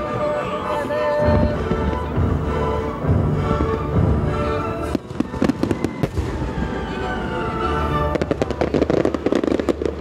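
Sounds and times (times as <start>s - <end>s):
music playing: 0.0s - 10.0s
fireworks bursting: 0.2s - 10.0s.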